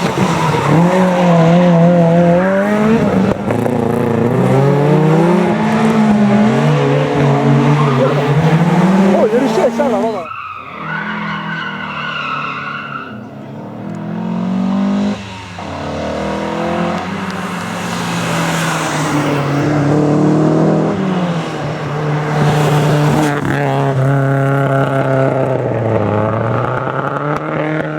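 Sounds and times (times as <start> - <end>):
rally car engine revving: 0.0 - 27.9
tyre noise on road: 0.0 - 27.9.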